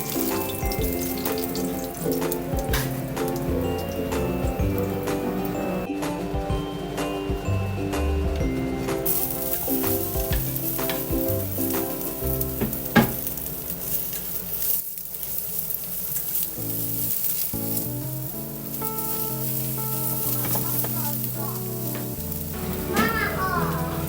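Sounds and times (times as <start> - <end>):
food sizzling in a frying pan: 0.0 - 5.4, 9.0 - 24.0
soft background music: 0.0 - 14.2, 16.7 - 24.0.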